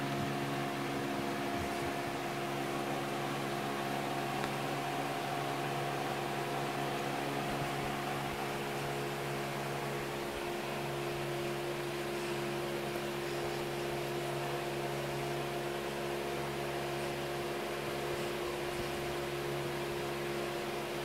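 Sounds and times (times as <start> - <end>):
machine hum with hiss: 0.0 - 21.0.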